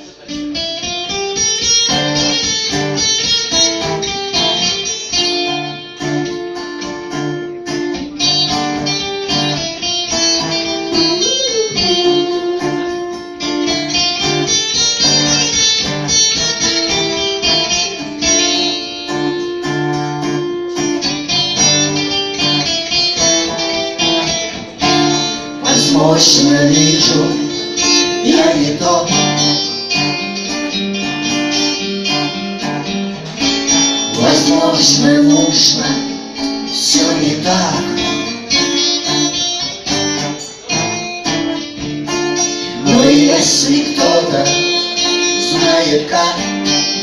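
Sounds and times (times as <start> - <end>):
guitar quick picked notes: 0.0 - 47.0
rock band playing: 0.0 - 47.0.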